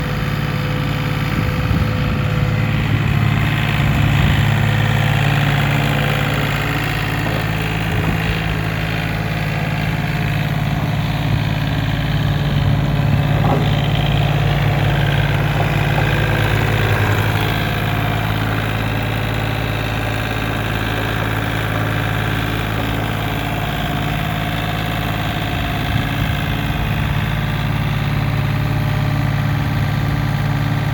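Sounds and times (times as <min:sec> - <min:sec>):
skid steer engine idling: 0:00.0 - 0:30.9.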